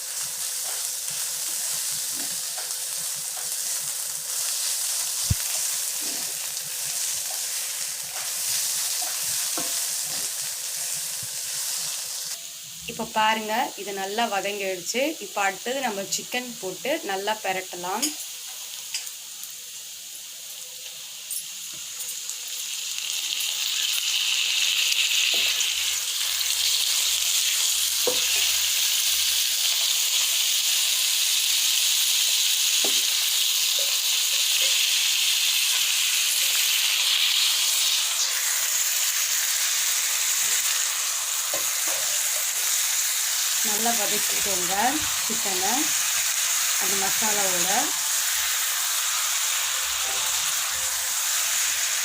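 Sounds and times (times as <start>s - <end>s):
chicken sizzling in a skillet: 0.0s - 52.0s.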